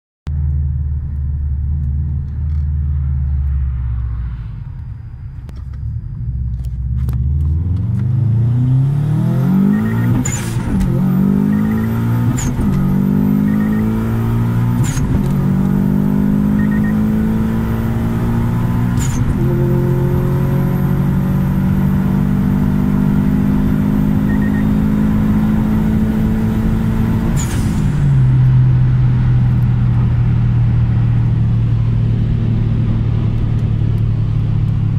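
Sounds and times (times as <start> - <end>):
car engine accelerating: 0.3 - 34.9.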